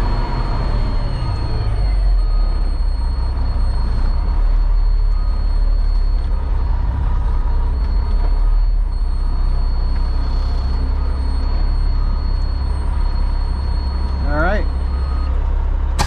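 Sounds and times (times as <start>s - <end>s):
diesel engine rumbling: 0.0s - 16.0s
thin constant whine: 0.0s - 16.0s.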